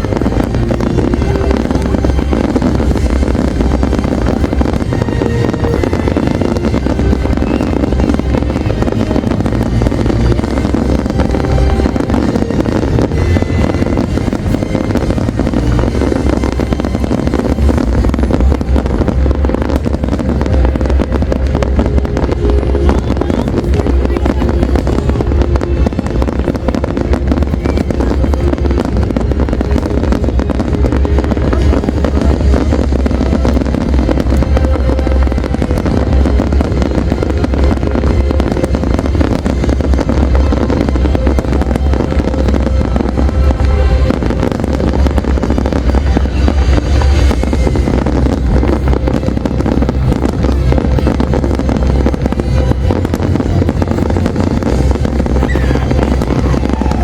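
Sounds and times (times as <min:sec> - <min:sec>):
fireworks bursts and bangs: 0:00.0 - 0:57.0
low rumble: 0:00.0 - 0:57.0
music playing: 0:00.0 - 0:57.0.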